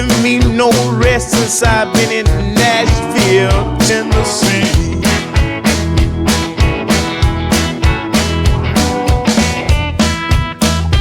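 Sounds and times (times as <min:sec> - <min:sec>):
steady drum beat: 0:00.0 - 0:10.9
guitar: 0:00.0 - 0:11.0.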